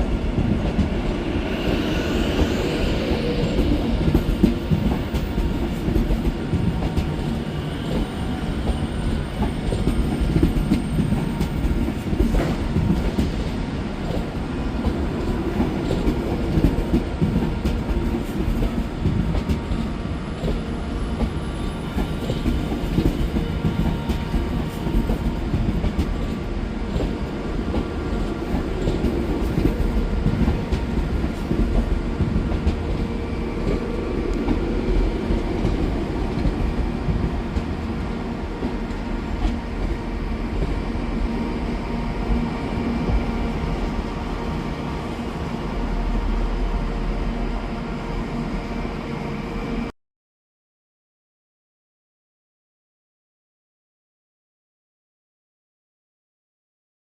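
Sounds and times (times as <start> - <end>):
train rumbling on rails: 0.0 - 49.9.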